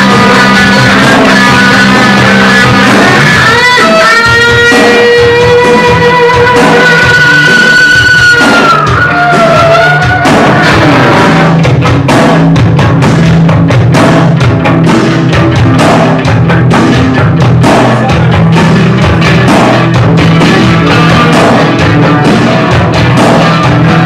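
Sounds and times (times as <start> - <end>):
low bass line: 0.0 - 6.7, 8.9 - 24.0
drum kit beating fast rhythm: 0.0 - 24.0
electric guitar: 0.0 - 24.0
live rock band playing: 0.0 - 24.0.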